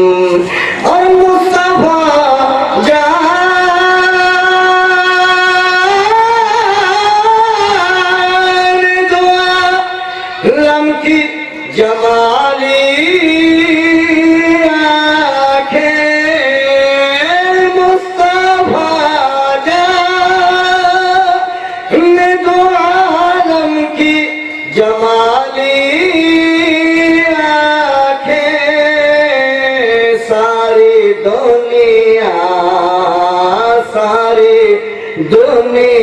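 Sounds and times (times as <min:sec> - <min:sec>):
man singing into a microphone: 0:00.0 - 0:36.0.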